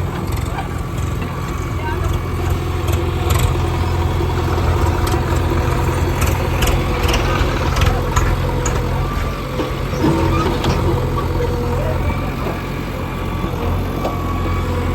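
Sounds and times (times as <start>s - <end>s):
heavy diesel engine running: 0.0s - 14.9s.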